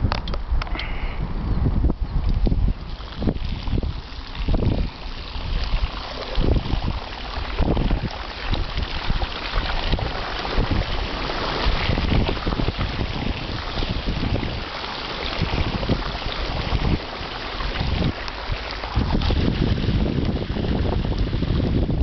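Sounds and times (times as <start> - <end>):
wind buffeting microphone: 0.0 - 22.0
bicycle wheels splashing through water: 2.7 - 22.0.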